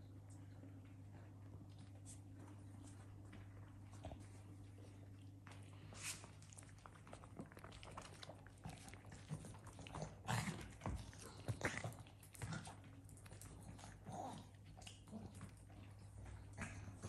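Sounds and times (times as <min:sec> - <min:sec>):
steady low hum: 0:00.0 - 0:17.0
dog chewing sounds: 0:00.1 - 0:17.0.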